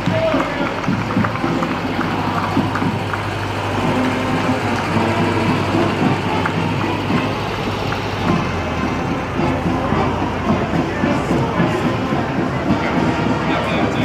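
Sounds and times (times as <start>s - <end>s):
faint voices: 0.0s - 14.0s
vehicle engine running slowly: 0.0s - 14.0s.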